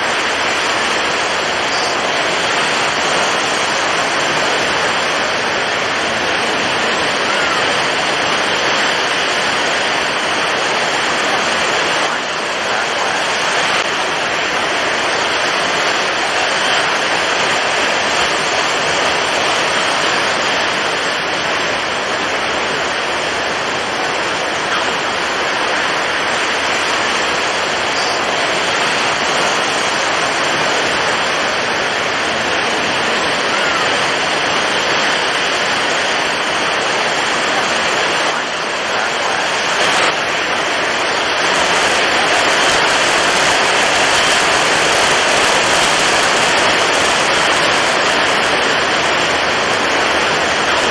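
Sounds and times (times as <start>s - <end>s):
heavy waves: 0.0s - 50.9s
strong wind: 0.0s - 50.9s.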